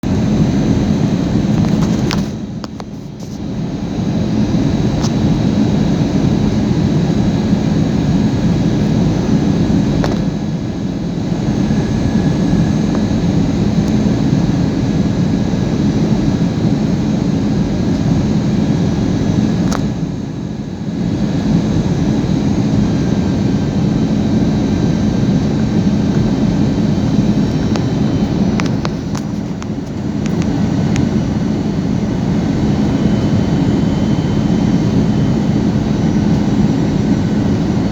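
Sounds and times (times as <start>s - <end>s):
airliner engine and airflow noise: 0.0s - 37.9s
high engine whines: 0.1s - 37.9s.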